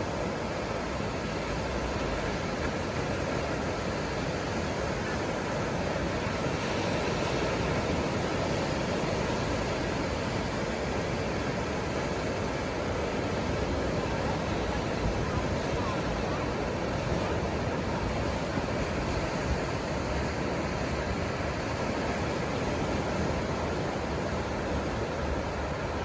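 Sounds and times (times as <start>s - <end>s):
surf breaking on a beach: 0.0s - 26.0s.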